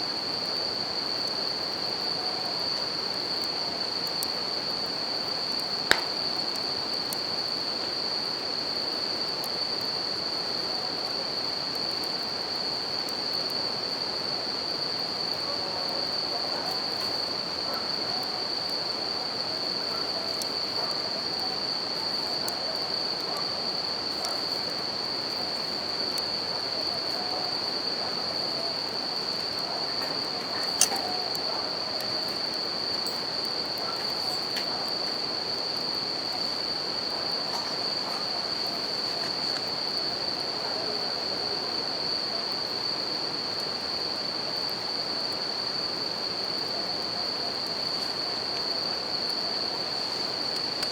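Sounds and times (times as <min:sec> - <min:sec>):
crickets trilling: 0:00.0 - 0:50.9
campfire crackling and popping: 0:00.5 - 0:40.3, 0:49.8 - 0:50.9.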